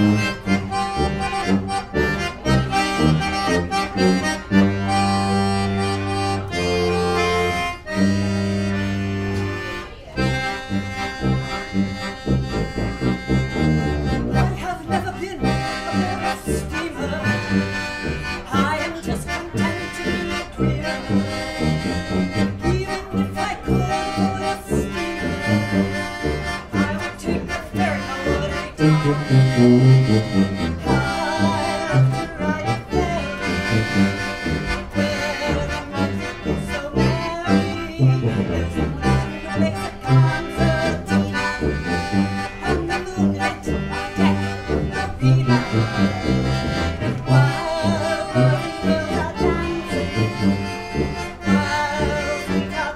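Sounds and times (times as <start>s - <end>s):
accordion playing polka: 0.0s - 52.9s
tuba bass line: 0.0s - 52.9s.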